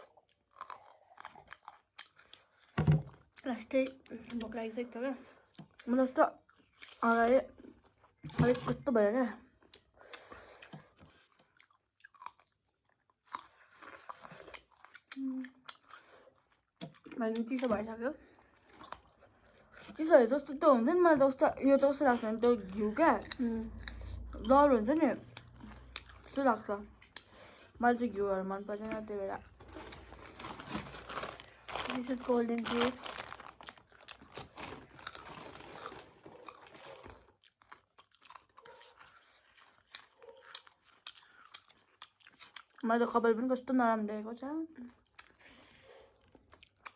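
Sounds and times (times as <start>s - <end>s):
chewing and crunching food: 0.0s - 43.8s, 44.4s - 46.9s.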